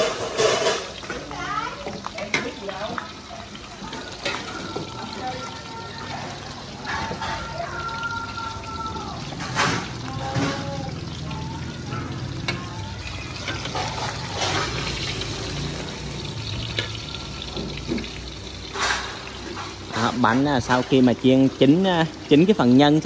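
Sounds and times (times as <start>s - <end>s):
crepes sizzling in hot oil: 0.0s - 23.0s
oil crackling: 0.0s - 23.0s.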